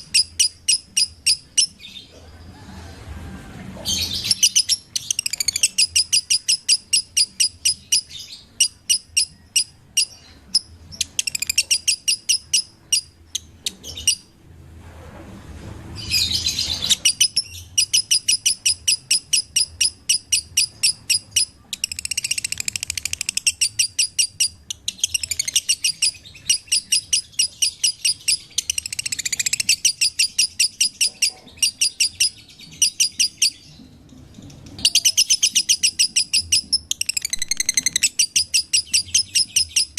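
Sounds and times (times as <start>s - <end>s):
lovebird chirping: 0.0s - 2.2s, 3.9s - 14.4s, 16.0s - 39.9s
harsh bird chatter: 3.8s - 14.3s, 16.0s - 39.9s.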